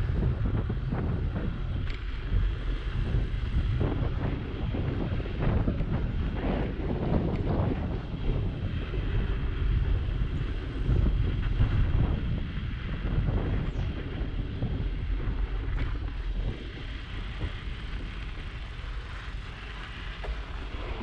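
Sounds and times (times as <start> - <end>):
tyres rolling on packed snow: 0.0 - 21.0
wind buffeting microphone: 0.0 - 21.0.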